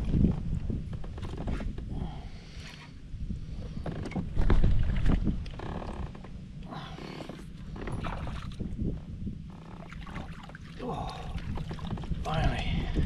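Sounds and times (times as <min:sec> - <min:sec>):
wind rumbling on microphone: 0:00.0 - 0:13.0
water moving around kayak: 0:01.0 - 0:13.0.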